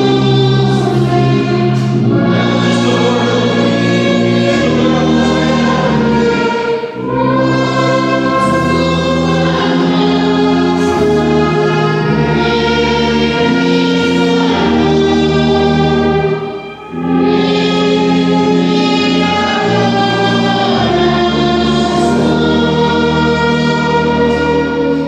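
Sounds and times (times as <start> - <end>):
orchestra with tubas playing hymn: 0.0 - 25.0
voices singing: 0.0 - 25.0.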